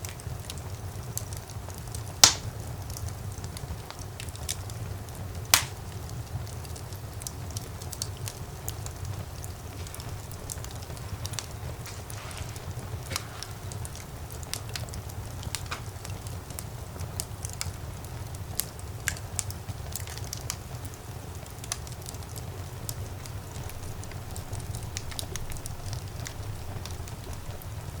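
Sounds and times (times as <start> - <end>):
fire crackling and popping: 0.0 - 28.0
low steady fire roar: 0.0 - 28.0.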